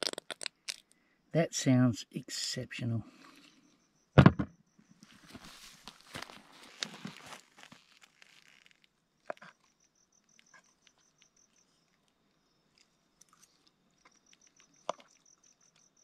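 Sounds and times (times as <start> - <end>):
insect chirping: 2.6 - 16.0.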